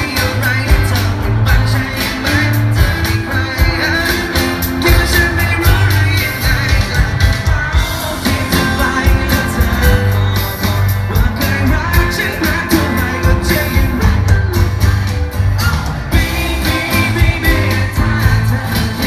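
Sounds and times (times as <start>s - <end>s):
man singing into microphone: 0.0s - 19.0s
upbeat amplified pop music: 0.0s - 19.0s.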